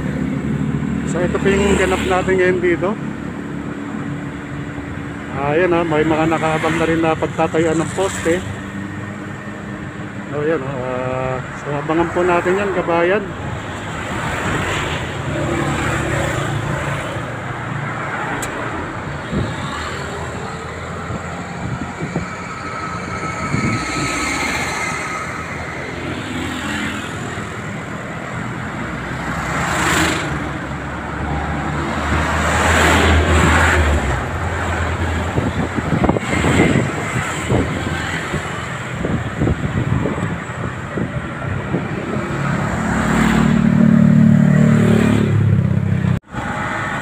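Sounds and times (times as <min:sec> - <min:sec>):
road traffic passing: 0:00.0 - 0:47.0.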